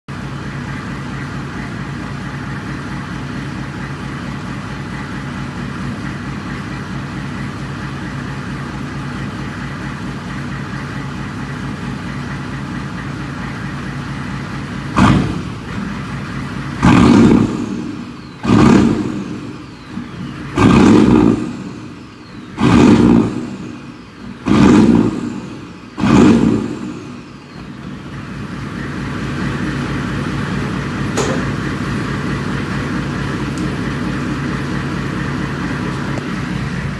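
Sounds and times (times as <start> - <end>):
diesel engine idling and revving: 0.0 - 36.9.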